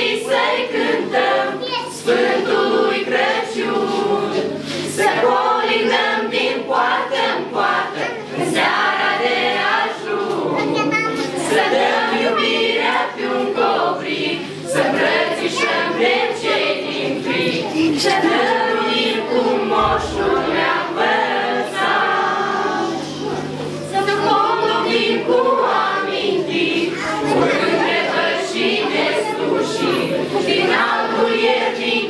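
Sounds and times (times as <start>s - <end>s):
group of teenagers singing carol: 0.0s - 32.0s.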